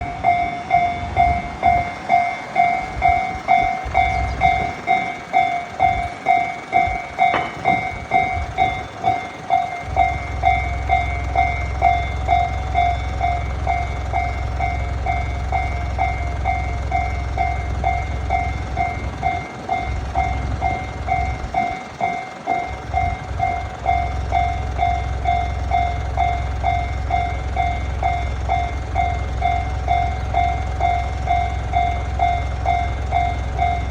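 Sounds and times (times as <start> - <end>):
level crossing bell ringing: 0.0 - 33.9.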